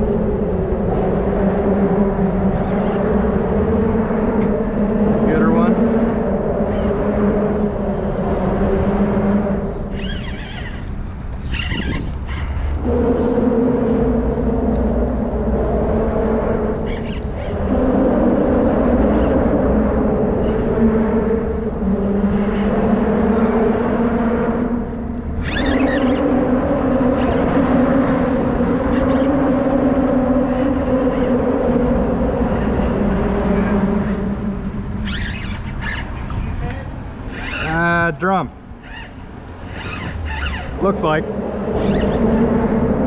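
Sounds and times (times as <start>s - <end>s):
motorboat engine running: 0.0s - 43.0s.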